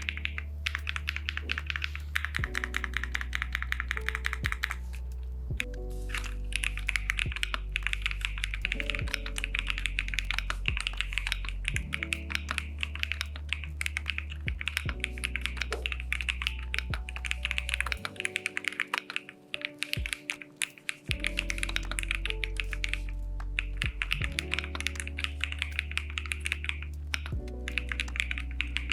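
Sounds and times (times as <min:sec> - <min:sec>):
mechanical keyboard typing: 0:00.0 - 0:04.8, 0:06.2 - 0:28.9
background music: 0:00.0 - 0:28.9.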